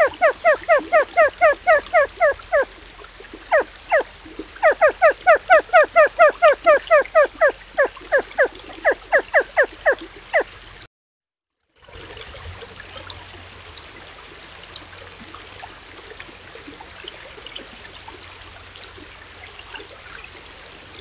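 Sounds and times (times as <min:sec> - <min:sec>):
stream running faintly: 0:00.0 - 0:10.9, 0:11.6 - 0:21.0.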